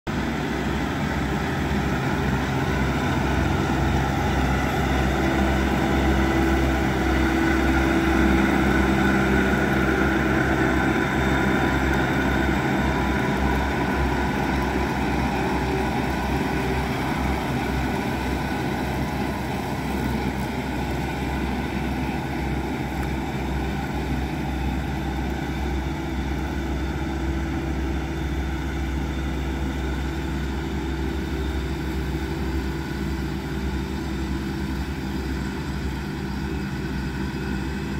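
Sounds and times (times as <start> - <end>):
tractor engine running under load: 0.1 - 37.9.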